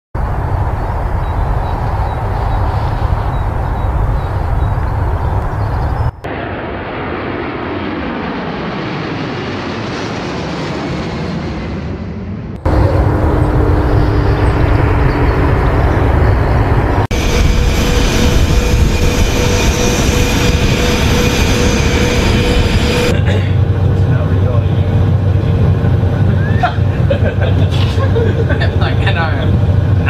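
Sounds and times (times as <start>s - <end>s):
deep jet engine rumble: 0.2s - 30.0s
jet flying overhead: 0.2s - 30.0s.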